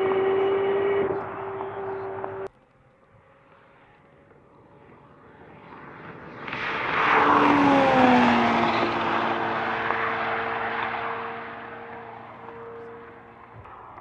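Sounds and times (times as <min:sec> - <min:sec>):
car passing at high speed: 0:00.0 - 0:14.0.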